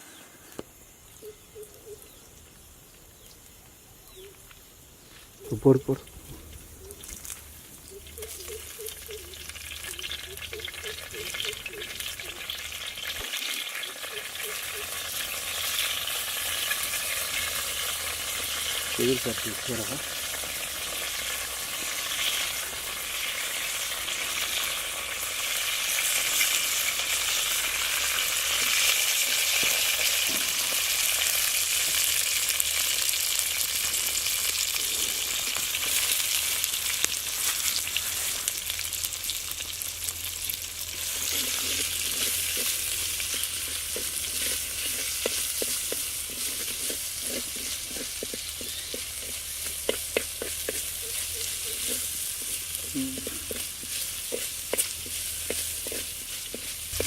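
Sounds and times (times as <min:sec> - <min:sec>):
food sizzling in hot oil: 0:00.7 - 0:57.0.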